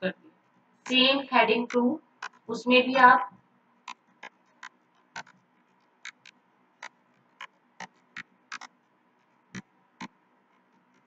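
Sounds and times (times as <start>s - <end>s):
faint steady hum: 0.0s - 11.0s
keyboard typing: 0.8s - 2.6s, 3.8s - 11.0s.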